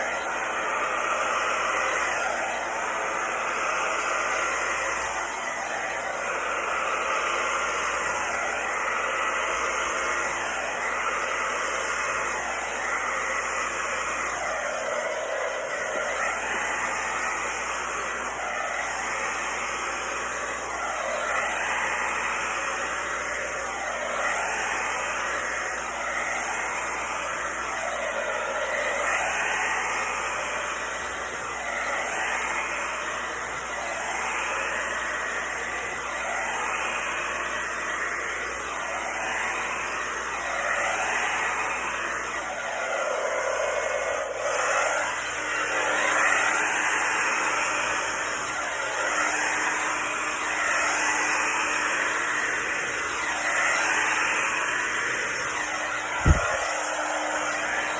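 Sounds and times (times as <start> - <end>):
heat gun blowing hot air: 0.0 - 57.9.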